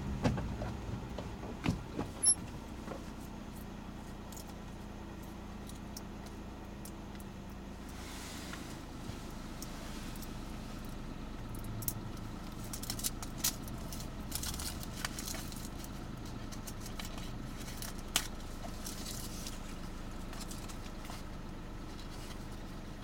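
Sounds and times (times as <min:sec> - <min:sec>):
car idling hum: 0:00.0 - 0:23.0.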